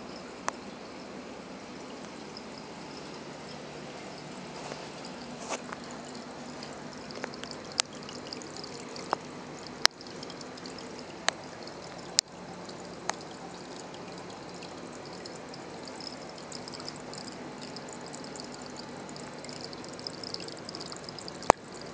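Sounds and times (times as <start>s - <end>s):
water trickling and splashing: 0.0s - 21.9s.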